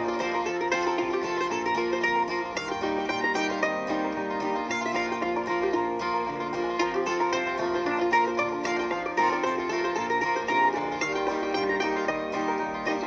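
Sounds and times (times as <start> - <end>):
plucked string music: 0.0 - 13.0.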